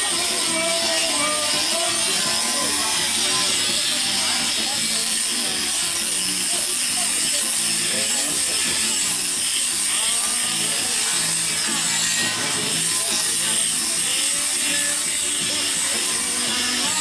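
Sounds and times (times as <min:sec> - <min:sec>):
power tool motor whine: 0:00.0 - 0:17.0.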